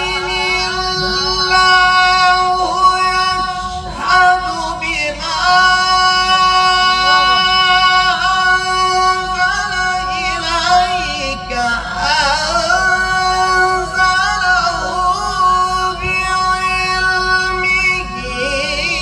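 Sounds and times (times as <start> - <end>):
man reciting in melodic chant: 0.0 - 19.0.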